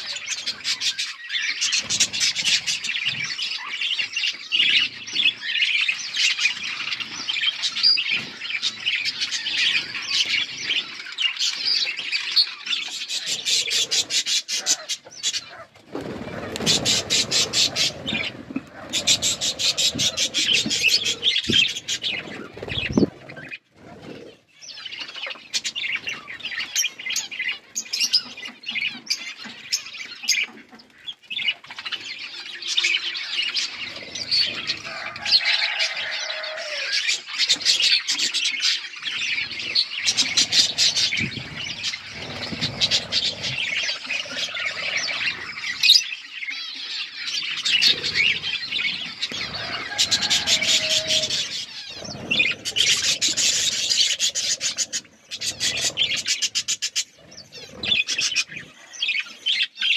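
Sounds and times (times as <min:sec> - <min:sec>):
budgerigars chattering: 0:00.0 - 0:59.9.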